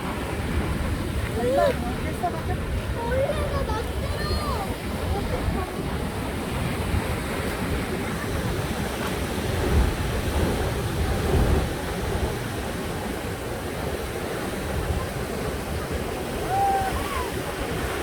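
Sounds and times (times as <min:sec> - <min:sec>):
rough sea surf breaking: 0:00.0 - 0:18.0
wind buffeting microphone: 0:00.0 - 0:18.0.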